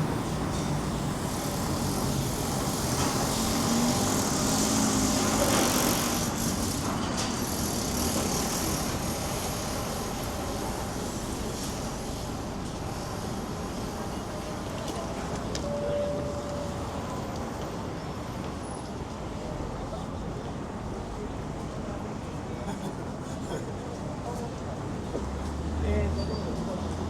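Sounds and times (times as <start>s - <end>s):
street noise: 0.0s - 27.0s.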